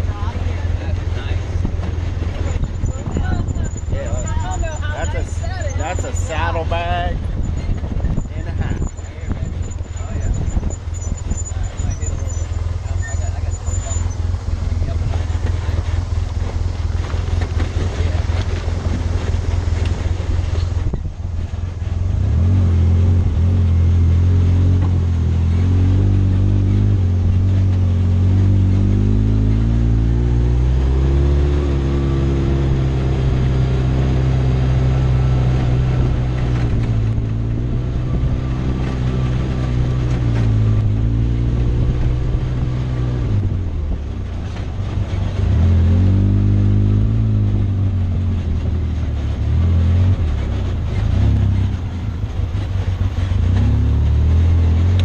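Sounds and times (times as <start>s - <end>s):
utility vehicle engine revving: 0.0s - 55.0s.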